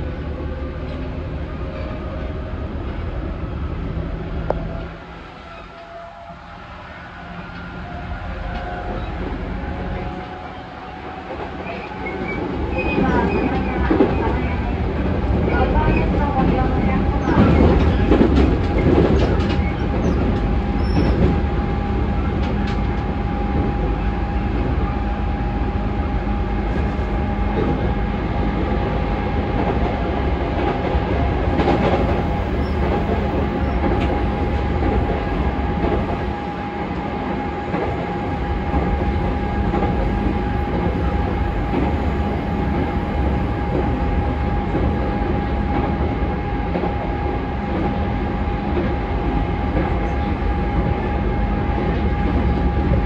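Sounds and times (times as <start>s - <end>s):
constant train tone: 0.0s - 53.0s
train wheels rumbling on rail: 0.0s - 53.0s.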